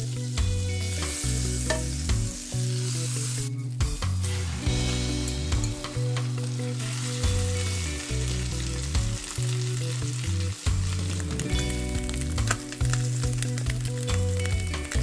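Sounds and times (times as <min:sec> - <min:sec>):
background music with bass: 0:00.0 - 0:15.0
batter sizzling in a frying pan: 0:00.0 - 0:15.0.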